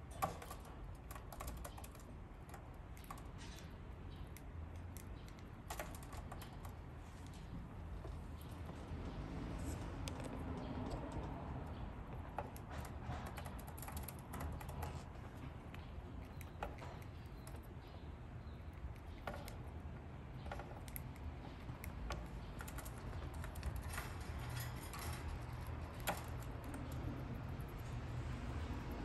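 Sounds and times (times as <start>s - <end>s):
bird beaks and feet tapping: 0.0s - 9.1s, 9.7s - 29.0s.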